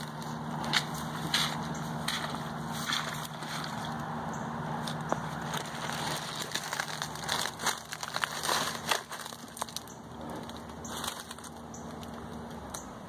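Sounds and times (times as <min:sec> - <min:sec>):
dry brush crackling underfoot: 0:00.0 - 0:12.9.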